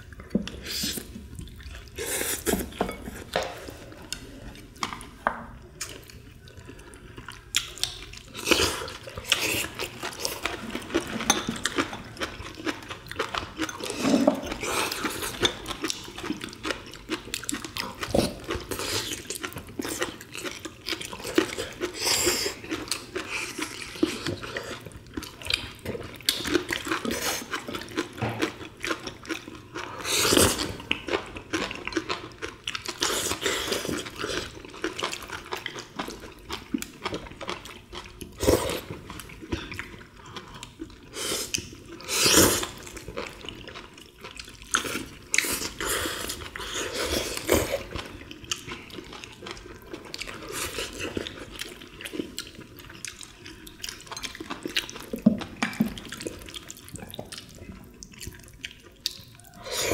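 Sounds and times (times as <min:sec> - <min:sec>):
wet chewing and slurping: 0:00.0 - 0:05.2, 0:05.8 - 0:59.9.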